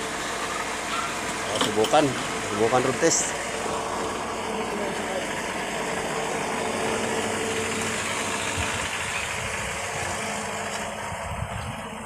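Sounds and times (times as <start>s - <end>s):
car engine running noisily: 0.0s - 12.0s.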